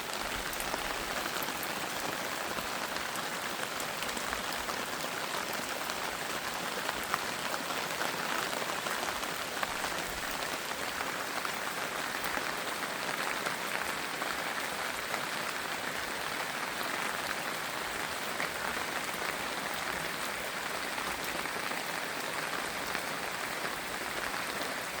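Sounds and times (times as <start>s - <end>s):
rain falling on leaves: 0.0s - 25.0s.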